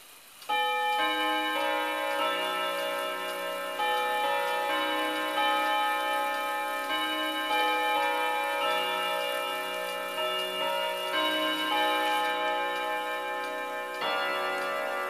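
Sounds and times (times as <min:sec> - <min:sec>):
chime clock melody: 0:00.5 - 0:15.0.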